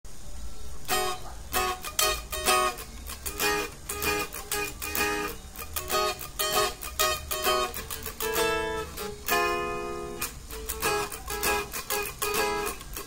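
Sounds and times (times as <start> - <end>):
electric guitar chords: 0.9 - 13.0.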